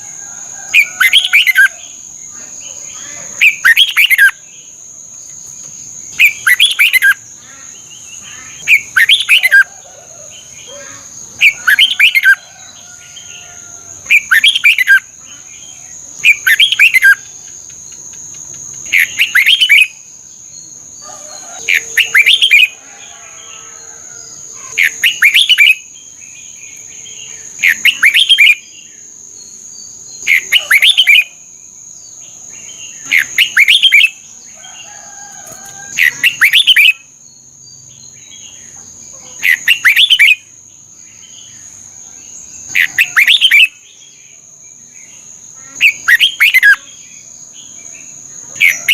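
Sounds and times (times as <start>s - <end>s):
bulbul song: 0.8s - 4.8s, 5.4s - 13.0s, 14.0s - 22.8s, 24.6s - 31.5s, 32.2s - 34.4s, 36.0s - 37.2s, 38.0s - 41.3s, 42.6s - 44.0s, 44.8s - 48.9s.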